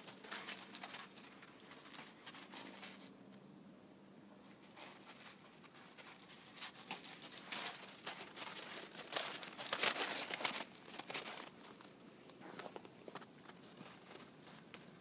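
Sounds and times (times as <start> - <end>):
dog footfalls crunching through snow: 0.0 - 3.1, 4.6 - 14.9.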